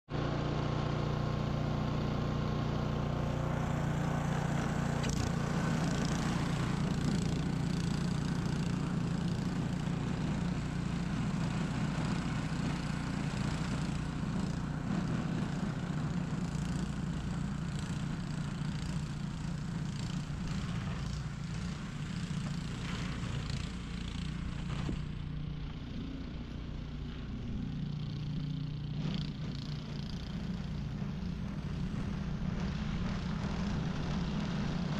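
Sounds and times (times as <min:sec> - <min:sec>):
snow blower engine running: 0:00.1 - 0:34.9.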